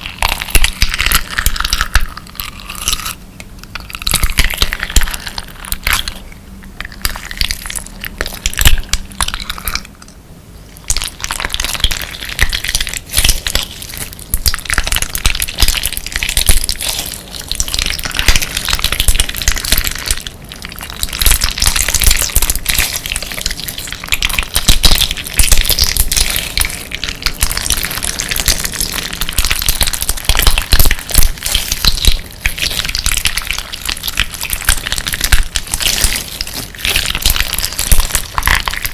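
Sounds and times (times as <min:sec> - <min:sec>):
slime with glass stones crunching: 0:00.0 - 0:09.9, 0:10.8 - 0:38.9.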